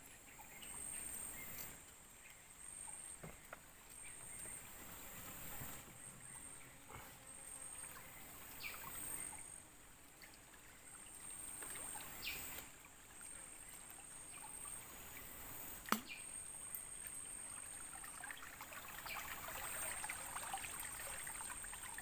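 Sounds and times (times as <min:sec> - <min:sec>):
water lapping: 0:04.3 - 0:22.0.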